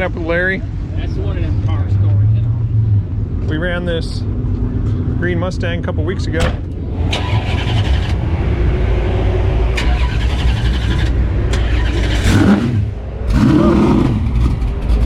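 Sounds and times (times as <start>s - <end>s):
drag-race car engine rumbling: 0.0s - 15.0s.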